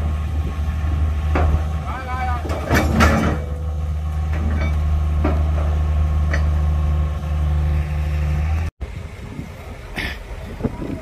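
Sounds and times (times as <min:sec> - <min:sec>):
large diesel engine running: 0:00.0 - 0:11.0.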